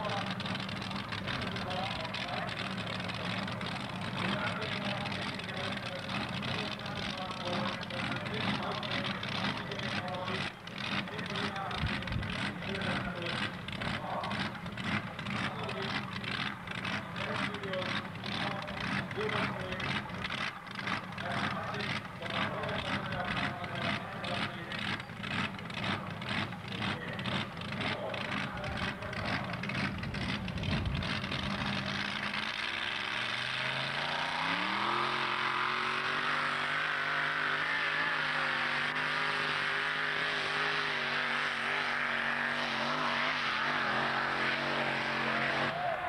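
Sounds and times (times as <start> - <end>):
tractor engine revving: 0.0 - 46.0.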